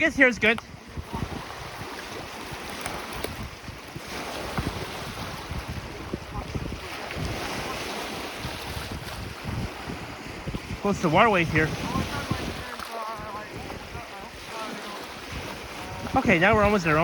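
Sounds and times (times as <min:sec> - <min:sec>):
lake waves against rocks: 0:00.0 - 0:17.0
wind gusting on microphone: 0:00.0 - 0:17.0.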